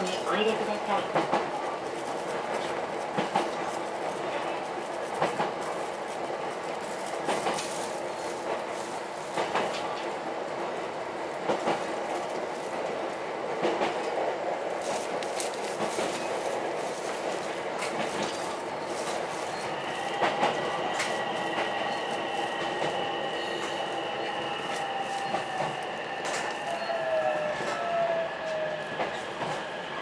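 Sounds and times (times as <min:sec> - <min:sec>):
railcar rumbling: 0:00.0 - 0:30.0.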